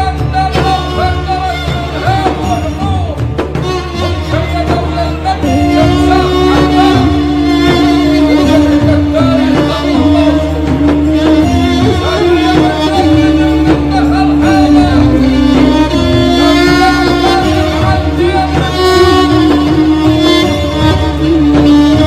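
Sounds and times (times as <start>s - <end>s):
low repeating accompaniment: 0.0s - 22.0s
ornamented melody line: 0.0s - 22.0s.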